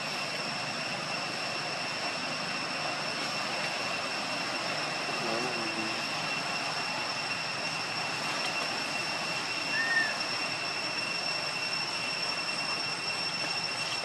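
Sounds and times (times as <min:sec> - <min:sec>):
high-pitched steady tones: 0:00.0 - 0:14.0.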